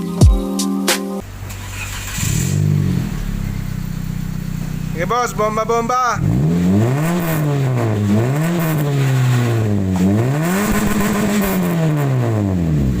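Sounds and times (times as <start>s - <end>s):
car engine revving: 1.2s - 13.0s.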